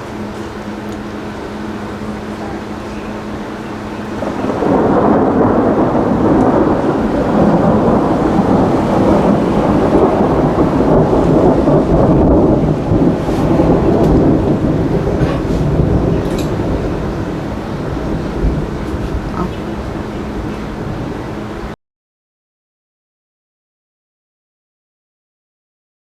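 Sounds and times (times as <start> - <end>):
rain falling: 0.0 - 21.8
thunder rumbling: 0.0 - 21.8.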